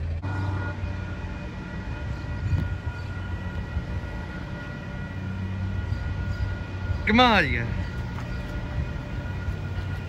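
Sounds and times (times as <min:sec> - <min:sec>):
train low drone: 0:00.0 - 0:10.0
steady high tones: 0:00.2 - 0:10.0.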